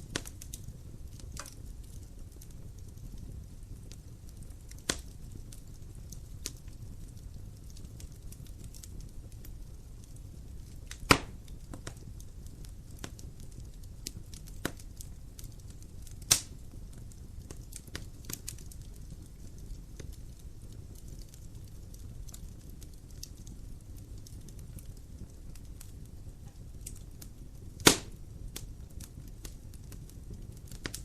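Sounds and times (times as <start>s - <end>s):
loud fire pops: 0.0s - 31.0s
wood fire crackling: 0.0s - 31.0s.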